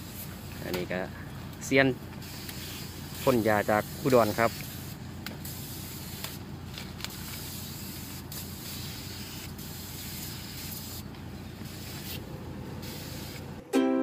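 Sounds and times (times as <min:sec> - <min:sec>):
hose spray gun hissing: 0:00.0 - 0:00.8, 0:02.1 - 0:13.6.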